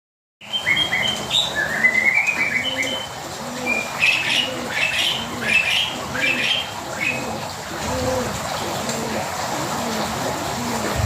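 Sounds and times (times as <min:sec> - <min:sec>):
songbirds chirping: 0:00.4 - 0:09.6
dove cooing: 0:00.8 - 0:11.0.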